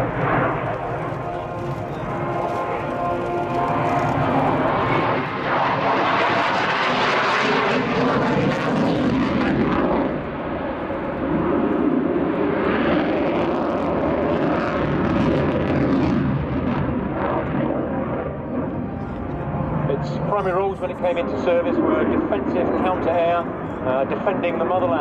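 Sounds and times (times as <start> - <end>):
fighter jet engine roar: 0.0 - 25.0.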